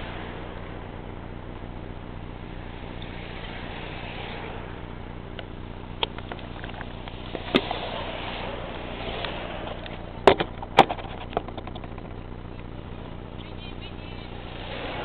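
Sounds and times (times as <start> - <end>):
noisy background: 0.0 - 15.0.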